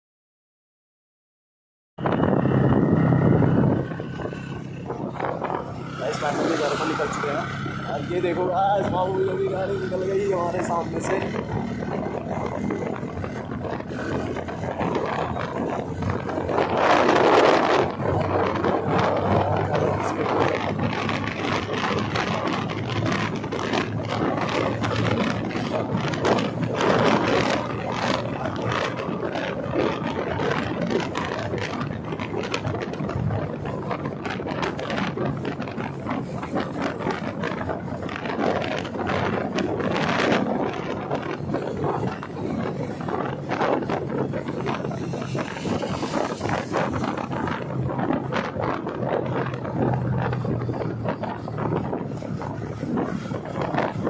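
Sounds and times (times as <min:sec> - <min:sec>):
motorcycle engine hum: 0:02.0 - 0:54.0
road noise: 0:02.0 - 0:54.0
wind buffeting microphone: 0:02.0 - 0:54.0.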